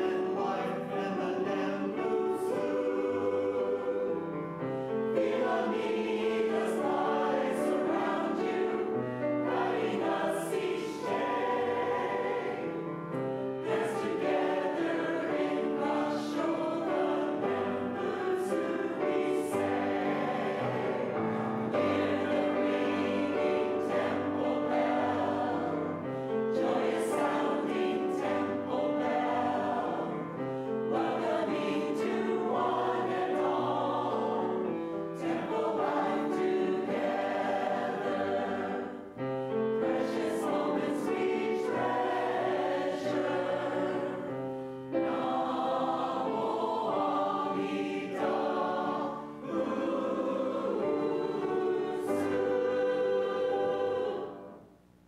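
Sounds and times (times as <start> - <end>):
mixed choir singing a hymn: 0.0 - 54.7.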